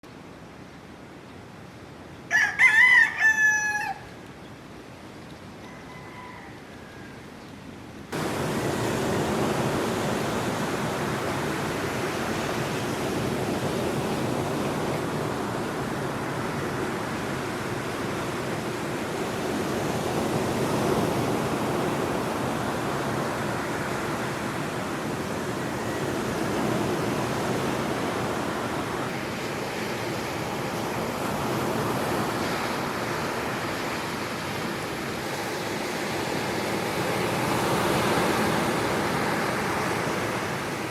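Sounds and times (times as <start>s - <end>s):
ocean surf breaking on sand: 8.1s - 40.9s.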